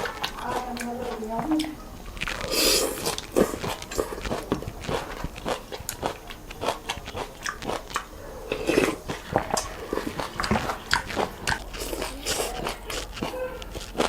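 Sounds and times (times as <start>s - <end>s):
person chewing noodles: 0.0s - 14.0s.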